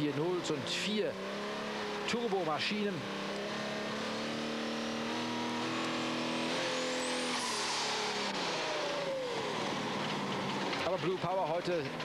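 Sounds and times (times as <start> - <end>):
tractor engines droning: 0.0 - 12.0.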